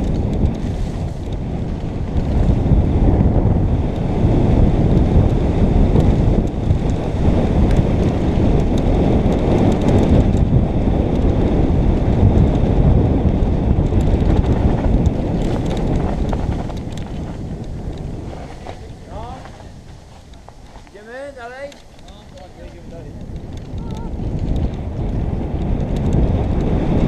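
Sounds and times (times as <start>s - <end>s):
bike clicks and rattles: 0.0s - 27.0s
wind buffeting microphone: 0.0s - 27.0s.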